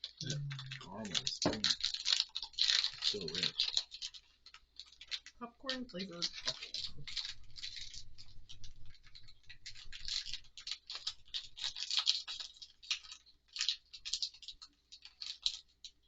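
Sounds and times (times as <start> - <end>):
wrapper crinkling and rustling: 0.0 - 16.0.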